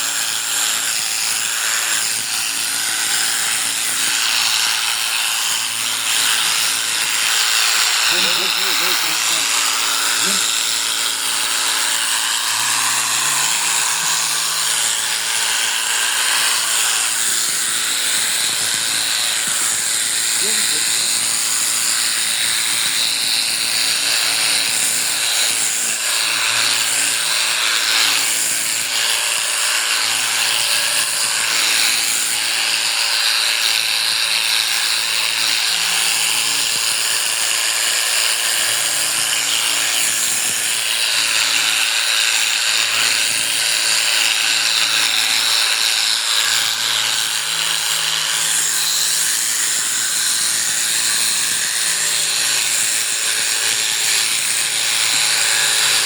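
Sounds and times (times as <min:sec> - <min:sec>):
electric shearing clippers running: 0:00.0 - 0:56.0.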